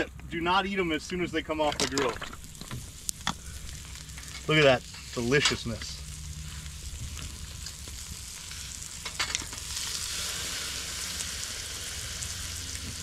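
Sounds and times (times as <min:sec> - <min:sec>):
oysters sizzling on a grill: 0:01.1 - 0:13.0.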